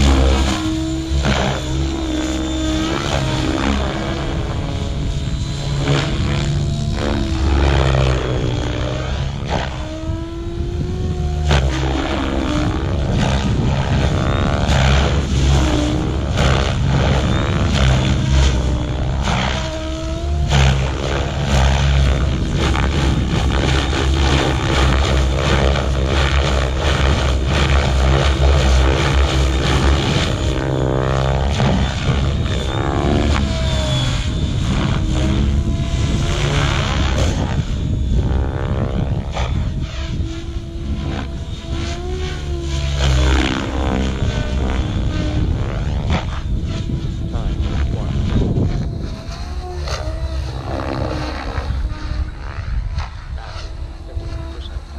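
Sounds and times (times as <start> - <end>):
model airplane motor and propeller: 0.0 - 54.9
steady low drone: 0.0 - 54.9.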